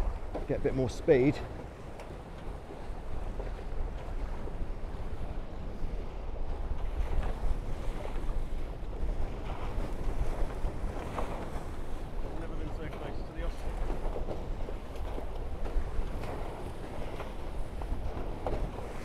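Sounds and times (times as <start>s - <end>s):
water rushing past hulls: 0.0s - 19.0s
wind buffeting microphone: 0.0s - 19.0s.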